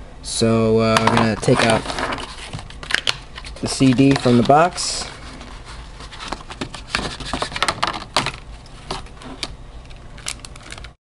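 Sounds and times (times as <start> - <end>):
disc packaging clicks and rustles: 0.9 - 11.0.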